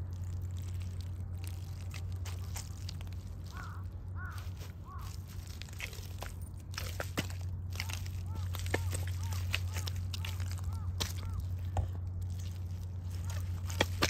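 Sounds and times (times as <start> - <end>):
squelching footsteps in mud: 0.0 - 14.0
steady low hum: 0.0 - 14.0.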